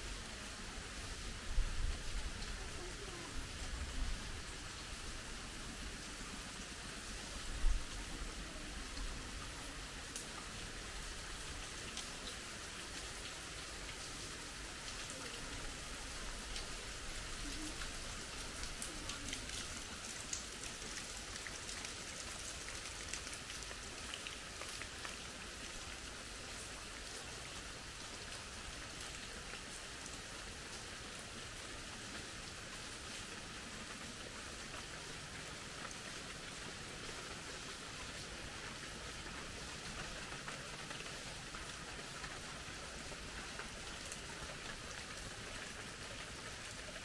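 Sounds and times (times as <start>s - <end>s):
raindrops ticking close by: 0.0s - 47.0s
steady rain: 0.0s - 47.0s.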